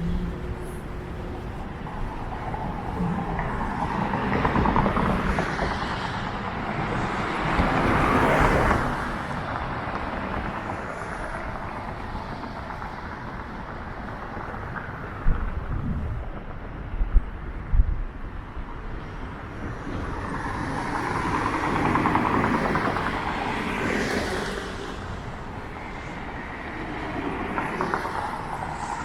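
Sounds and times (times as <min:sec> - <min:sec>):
cars passing: 0:00.0 - 0:17.0, 0:17.6 - 0:29.0
wind rumble on microphone: 0:00.0 - 0:29.0.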